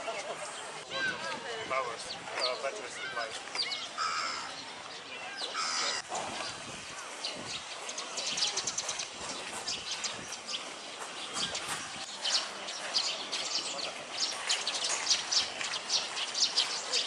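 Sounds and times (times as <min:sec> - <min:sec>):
steady background noise: 0:00.0 - 0:17.0
small birds chirping: 0:00.1 - 0:17.0.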